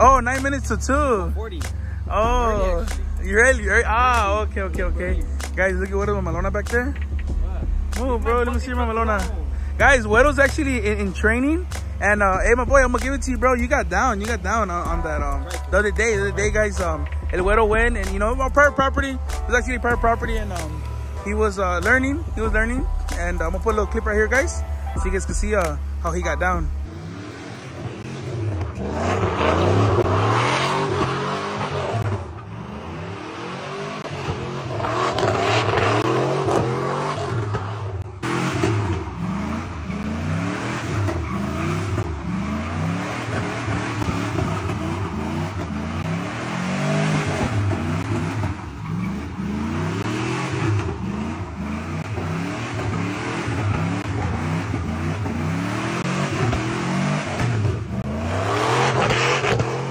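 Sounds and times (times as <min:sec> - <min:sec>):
tires spinning: 0:00.0 - 0:59.9
truck engine revving: 0:00.0 - 0:59.9.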